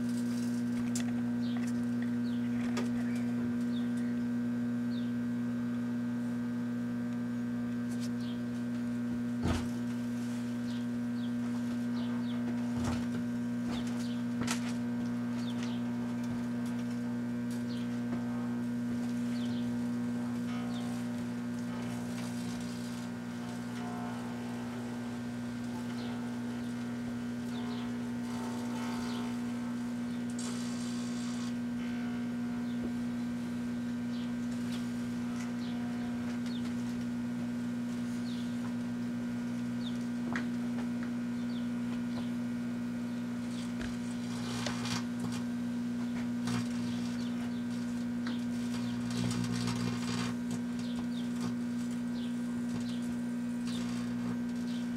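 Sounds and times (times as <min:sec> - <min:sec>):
microwave oven humming: 0:00.0 - 0:54.9.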